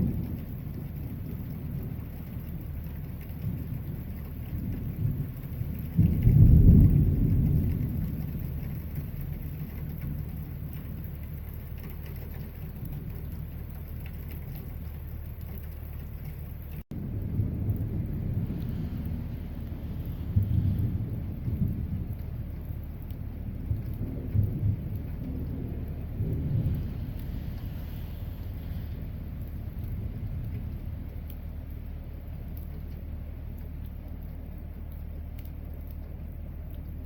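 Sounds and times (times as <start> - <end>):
rolling thunder: 0.0 - 33.2
steady rain: 0.0 - 37.0.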